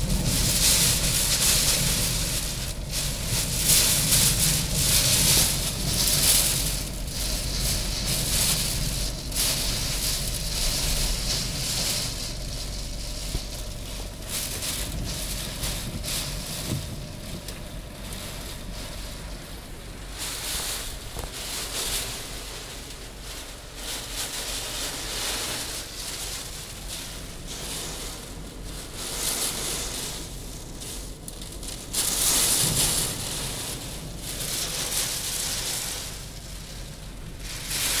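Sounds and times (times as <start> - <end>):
gusting wind: 0.0 - 38.0.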